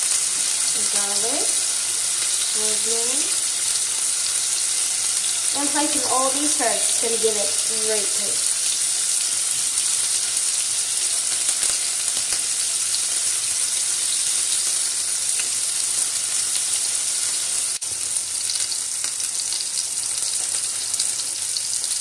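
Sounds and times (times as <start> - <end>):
steak sizzling in a pan: 0.0 - 22.0.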